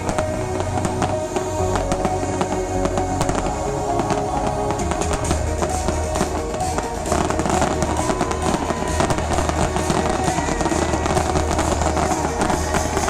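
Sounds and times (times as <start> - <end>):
electronic dance music: 0.0 - 13.0
fireworks popping and crackling: 0.0 - 13.0.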